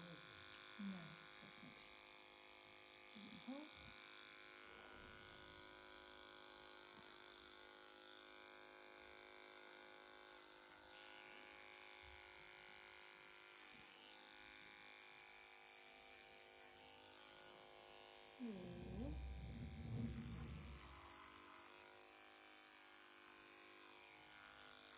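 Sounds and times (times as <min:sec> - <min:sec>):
electric clippers buzzing: 0:00.0 - 0:24.9.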